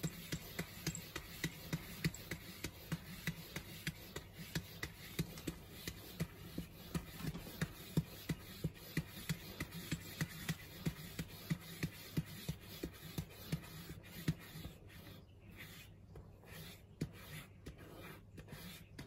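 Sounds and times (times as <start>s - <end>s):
cat scratching cardboard: 0.0s - 19.0s.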